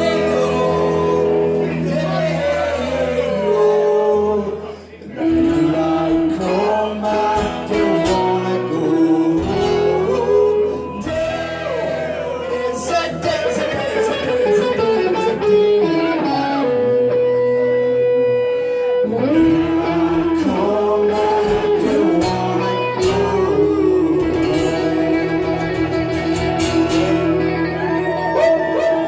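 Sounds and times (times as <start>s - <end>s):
electric guitar bending notes: 0.0s - 4.4s, 5.2s - 29.0s
amplified acoustic guitar: 0.0s - 29.0s.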